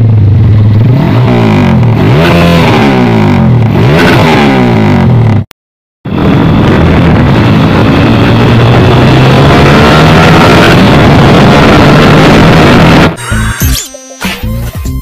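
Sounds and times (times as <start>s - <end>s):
motorcycle engine revving: 0.0s - 5.5s, 6.1s - 13.2s.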